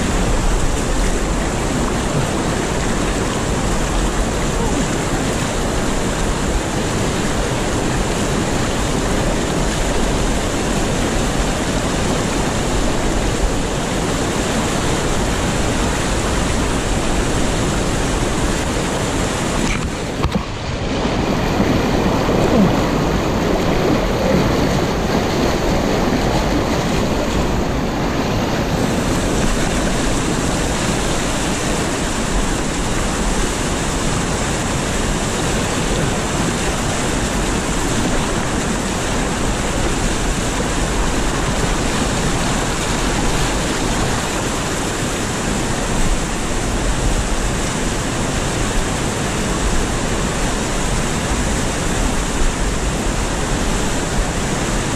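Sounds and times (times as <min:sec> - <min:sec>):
water rushing over rocks: 0:00.0 - 0:54.9.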